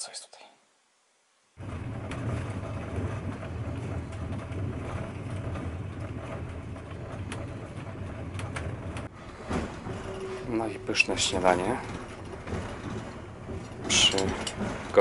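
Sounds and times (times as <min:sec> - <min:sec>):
sharp clicks and knocks: 0:01.6 - 0:15.0
train rumbling: 0:01.6 - 0:15.0.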